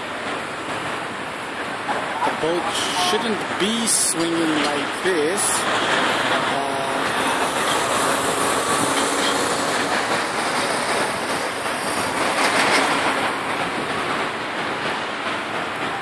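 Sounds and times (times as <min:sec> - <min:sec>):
crane machinery running: 0:00.0 - 0:16.0.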